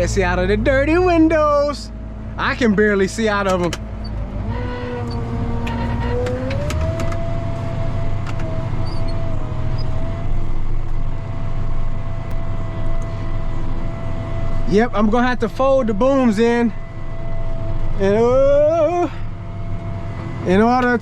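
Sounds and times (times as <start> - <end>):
engine rumble with whine: 0.0 - 21.0.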